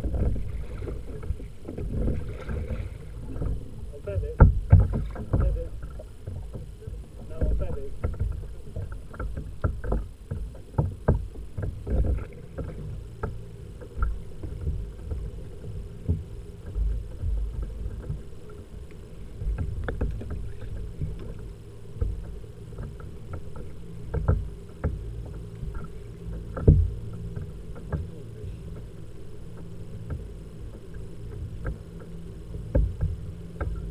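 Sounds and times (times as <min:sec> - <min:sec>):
water rumbling against a hull: 0:00.0 - 0:33.9.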